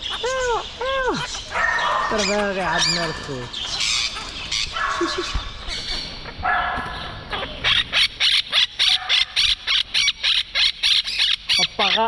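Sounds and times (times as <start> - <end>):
parrot squawking: 0.0 - 12.0
soft bird calls: 0.0 - 12.0.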